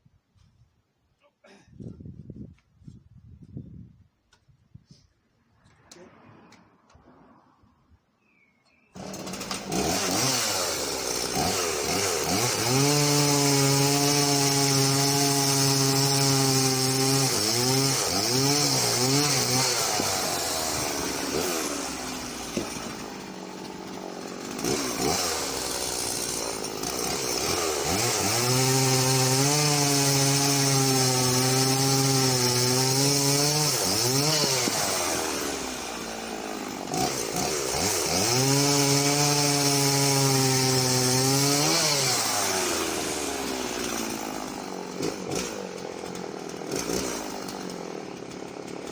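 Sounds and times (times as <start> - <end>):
chainsaw cutting wood: 8.9 - 48.9.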